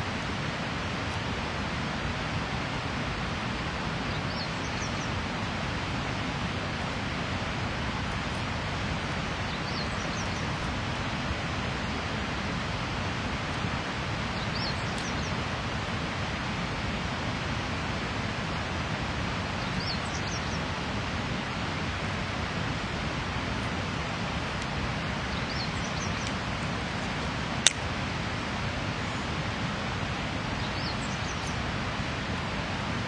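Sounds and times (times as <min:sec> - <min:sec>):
rushing background noise: 0:00.0 - 0:33.0.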